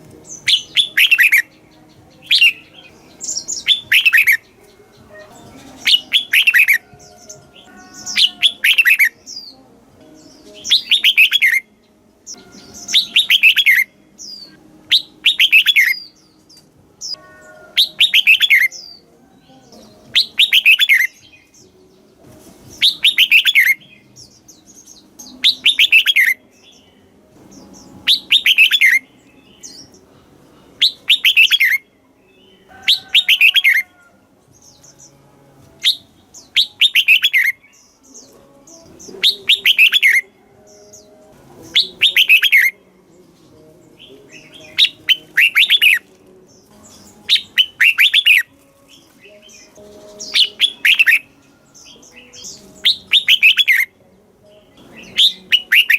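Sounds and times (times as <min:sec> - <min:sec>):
bulbul singing: 0:00.0 - 0:55.9.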